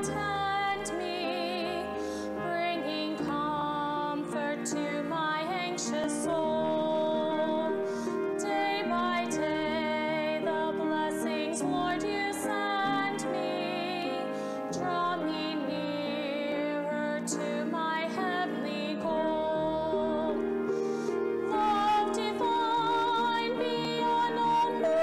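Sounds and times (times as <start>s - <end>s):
woman singing: 0.0s - 20.7s, 21.4s - 25.0s
instrumental accompaniment: 0.0s - 25.0s.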